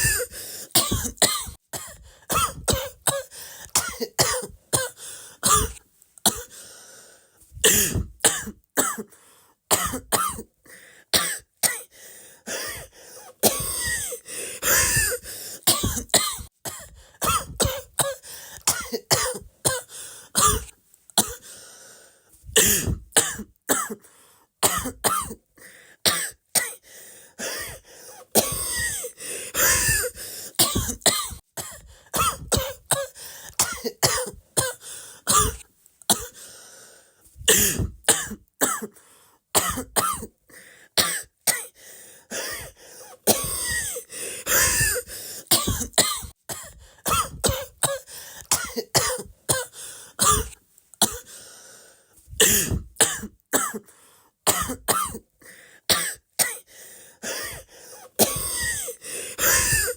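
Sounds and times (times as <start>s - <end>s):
person coughing: 0.0s - 6.6s, 7.6s - 9.1s, 9.7s - 10.5s, 12.5s - 21.5s, 22.6s - 24.0s, 24.6s - 25.4s, 27.4s - 36.4s, 37.5s - 39.0s, 39.6s - 40.3s, 41.0s - 51.4s, 52.4s - 53.9s, 54.5s - 55.3s, 55.9s - 59.9s.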